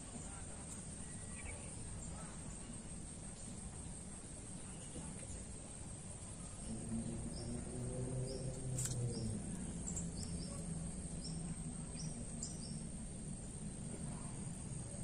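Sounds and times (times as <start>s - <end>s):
high insect whine: 0.0s - 15.0s
low steady hum: 0.0s - 15.0s.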